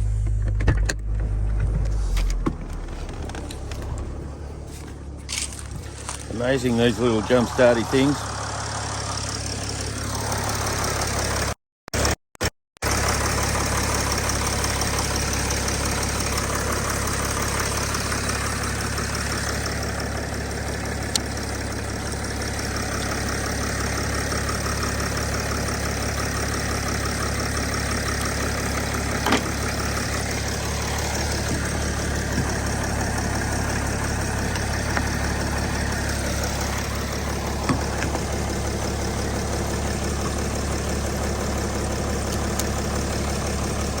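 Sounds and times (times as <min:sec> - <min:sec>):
engine idling: 0:00.0 - 0:12.1, 0:12.8 - 0:44.0.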